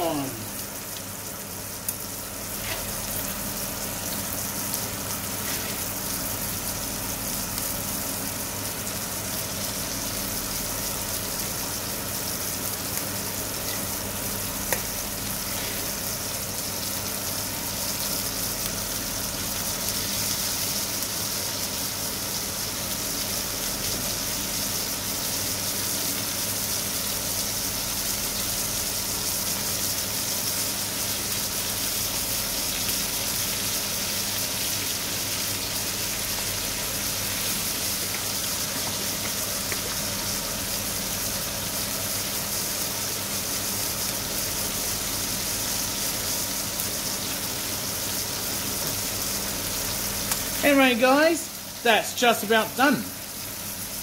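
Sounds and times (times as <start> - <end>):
patties sizzling in a frying pan: 0.0 - 54.0.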